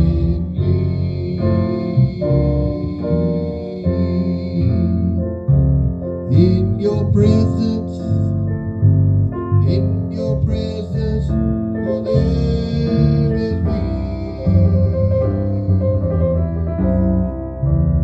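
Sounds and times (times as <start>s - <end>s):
piano playing slow chords: 0.0s - 18.0s.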